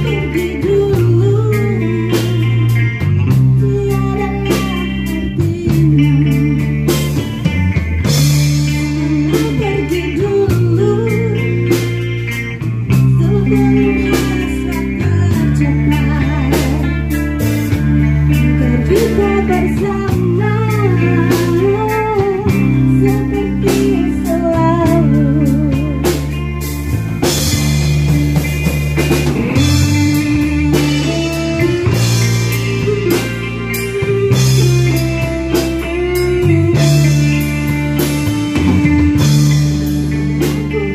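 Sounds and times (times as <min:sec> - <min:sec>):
woman singing: 0:00.0 - 0:07.3, 0:08.3 - 0:26.8, 0:29.6 - 0:39.6, 0:40.3 - 0:40.9
bass guitar: 0:00.0 - 0:40.9
drum kit: 0:00.0 - 0:40.9
electric guitars: 0:00.0 - 0:40.9.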